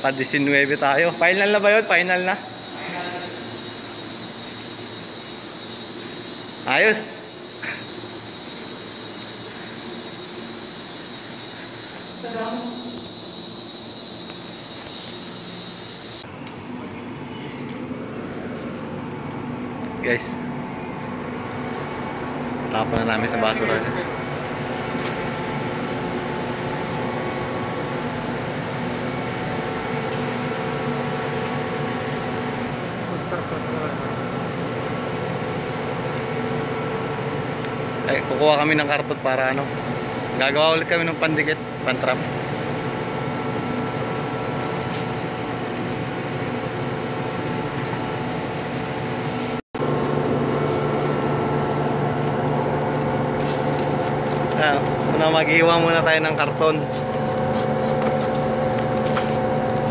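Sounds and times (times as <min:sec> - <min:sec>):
steady mechanical hum: 0:00.0 - 0:59.9.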